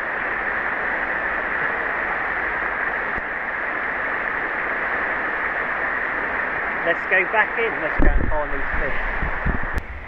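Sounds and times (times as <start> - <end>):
river water flowing: 0.0 - 10.0.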